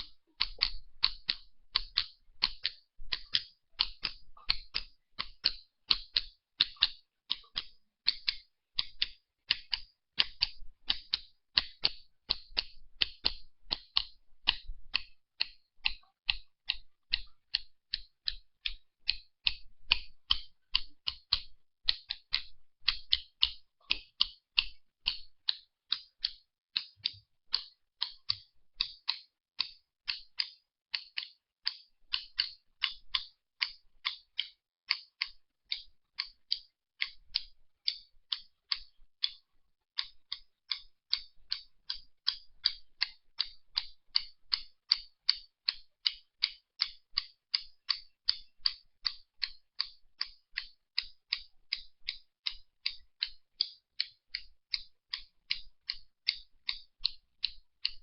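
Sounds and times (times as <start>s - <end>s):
sharp high-pitched ticks: 0.0s - 58.0s.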